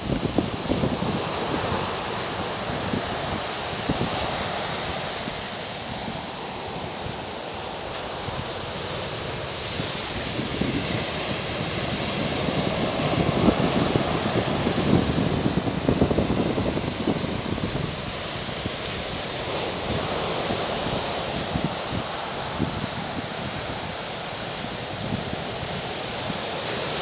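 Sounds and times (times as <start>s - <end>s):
ocean surf rushing: 0.0s - 27.0s
wind buffeting microphone: 0.0s - 27.0s.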